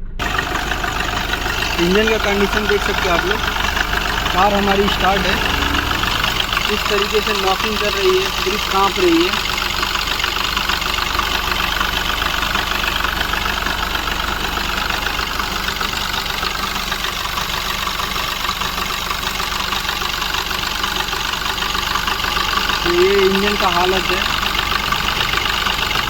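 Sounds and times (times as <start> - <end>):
diesel engine idling with knocking: 0.0 - 26.0.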